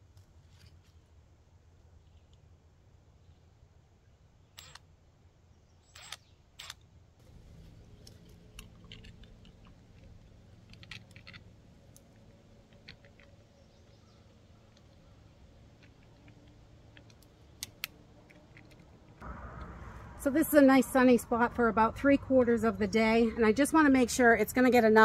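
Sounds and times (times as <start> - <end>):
faint low hum: 0.0 - 24.4.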